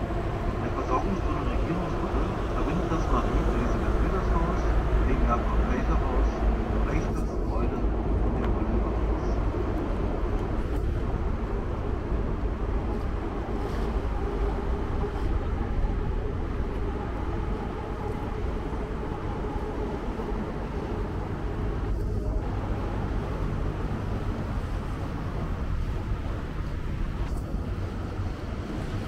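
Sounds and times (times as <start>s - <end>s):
boat engine rumble: 0.0s - 29.0s.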